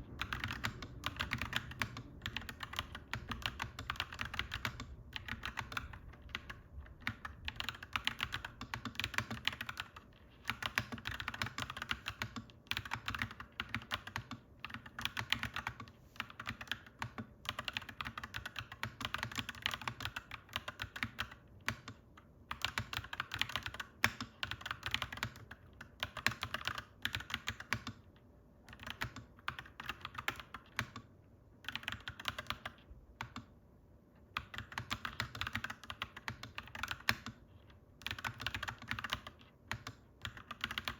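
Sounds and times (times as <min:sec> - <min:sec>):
mechanical keyboard typing: 0:00.0 - 0:33.6, 0:34.2 - 0:40.9.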